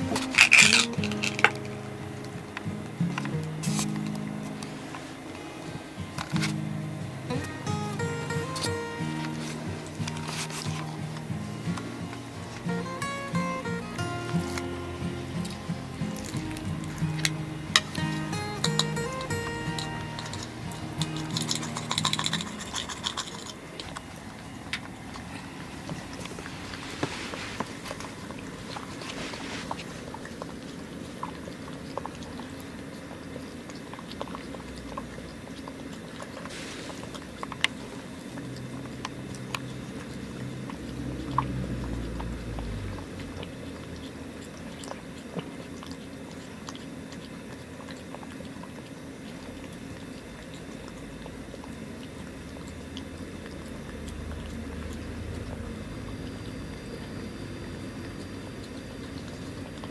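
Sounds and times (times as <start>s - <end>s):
cat chewing wet food: 0.0s - 59.9s.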